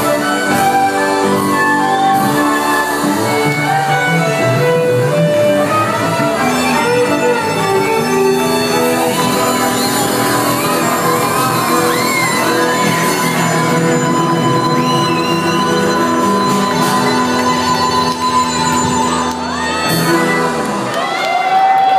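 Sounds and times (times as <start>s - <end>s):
acoustic guitar: 0.0s - 21.0s
fiddle melody: 0.0s - 21.1s
bass guitar: 0.0s - 21.9s
drums: 0.0s - 21.9s.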